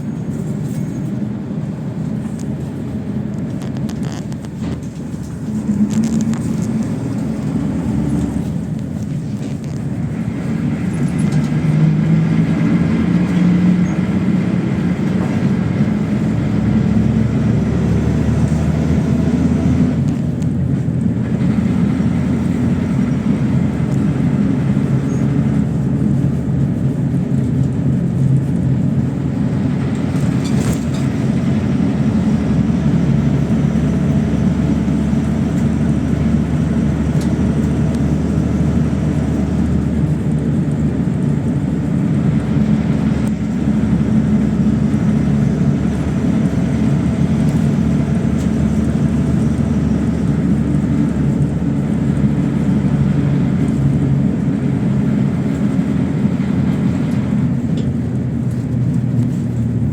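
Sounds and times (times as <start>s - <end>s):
bus engine and road drone: 0.0s - 59.9s.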